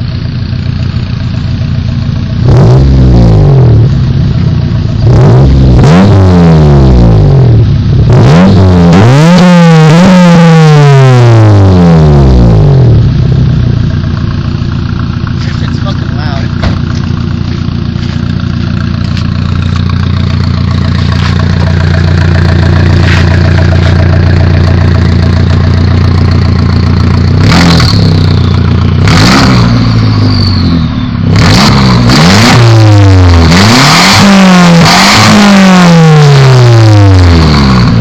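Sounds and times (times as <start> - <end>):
car engine revving: 0.6 - 38.0.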